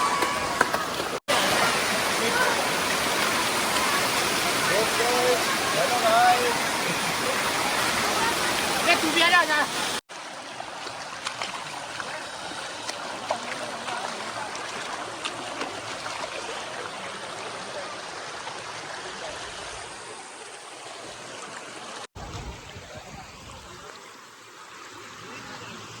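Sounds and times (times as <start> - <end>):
water flowing with splashes: 0.0 - 26.0.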